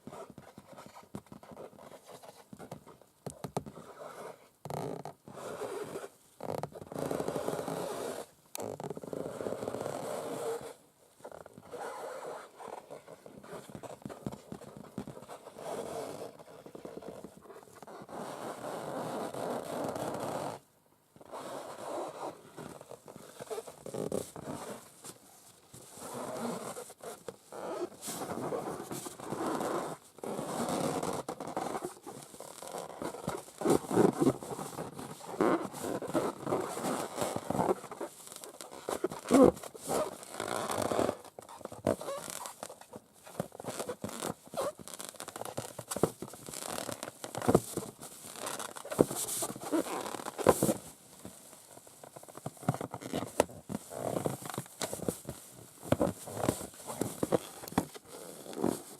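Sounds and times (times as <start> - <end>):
nails scratching a balloon: 0.0 - 20.6, 25.9 - 58.9.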